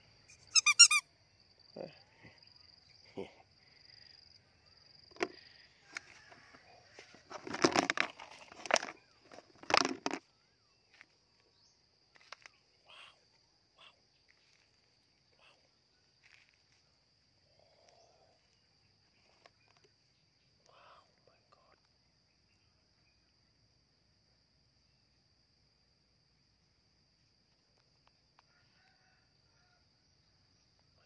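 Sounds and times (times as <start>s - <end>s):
high insect drone: 0.0s - 31.0s.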